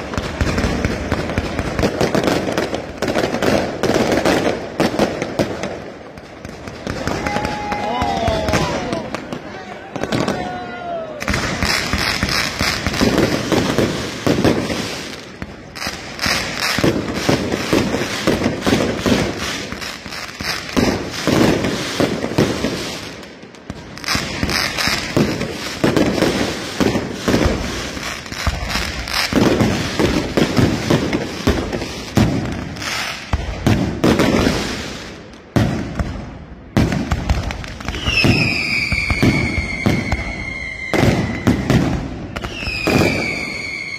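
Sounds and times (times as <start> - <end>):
firework bangs and crackling: 0.0 - 43.9
whistling fireworks: 0.0 - 43.9.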